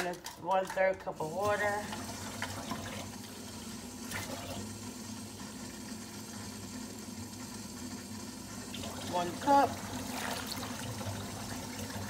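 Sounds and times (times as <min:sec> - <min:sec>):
tap water filling a cup: 0:00.0 - 0:12.0.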